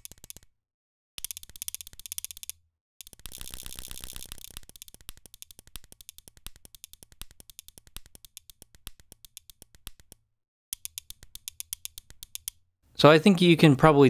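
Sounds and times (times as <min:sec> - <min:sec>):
rapid pen clicks: 0:00.0 - 0:00.5, 0:01.2 - 0:12.6.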